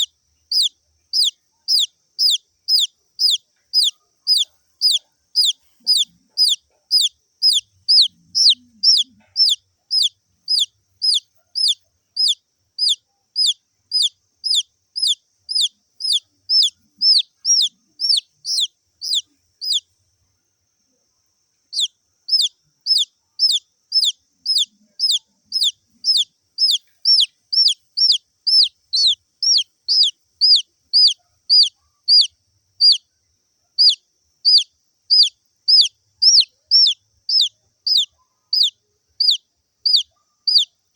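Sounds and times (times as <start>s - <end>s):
baby chick peeping: 0.0s - 19.9s, 21.7s - 33.1s, 33.8s - 40.9s.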